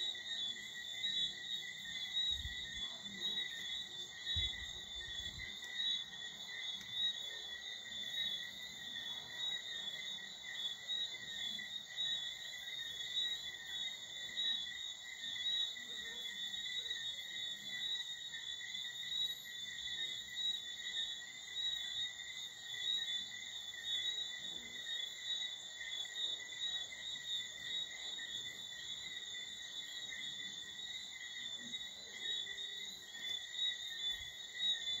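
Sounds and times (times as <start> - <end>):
night chorus of animals trilling: 0.0 - 35.0.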